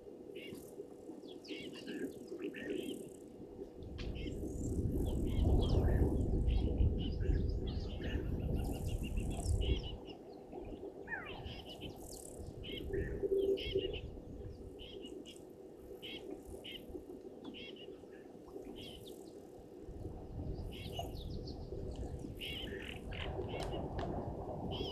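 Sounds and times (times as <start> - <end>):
wild birds chirping: 0.3 - 3.3, 4.1 - 19.6, 20.5 - 23.9.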